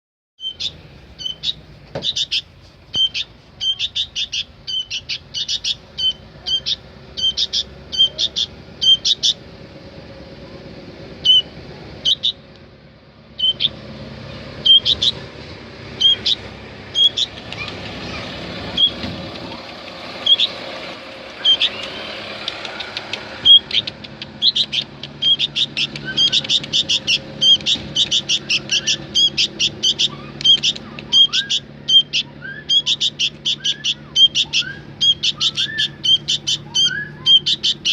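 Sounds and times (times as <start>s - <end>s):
bird giving sharp chirps: 0.4s - 9.5s, 11.2s - 12.5s, 13.3s - 15.3s, 15.9s - 37.9s.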